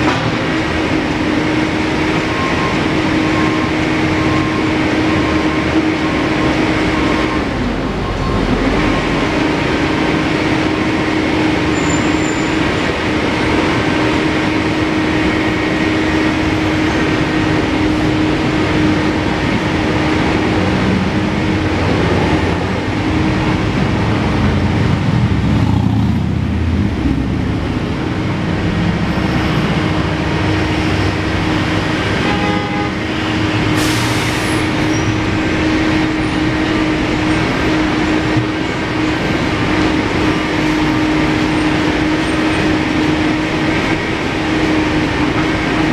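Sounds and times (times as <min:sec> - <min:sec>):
urban street noise: 0:00.0 - 0:45.9.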